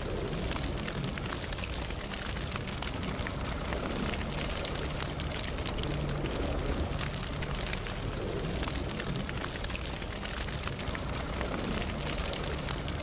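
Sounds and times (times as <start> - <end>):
burning wood crackling: 0.0 - 13.0
campfire flames rumbling: 0.0 - 13.0.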